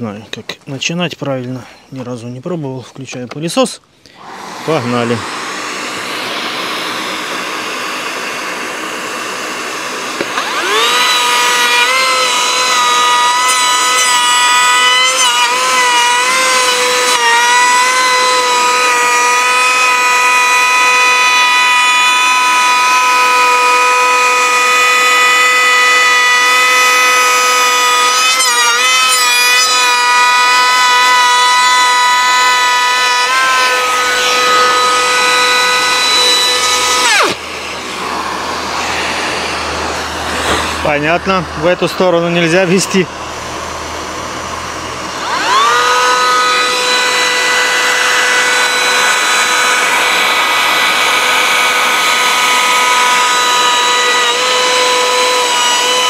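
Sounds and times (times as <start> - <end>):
router whining cutting wood: 4.0 - 56.0
vacuum cleaner hissing: 4.0 - 56.0.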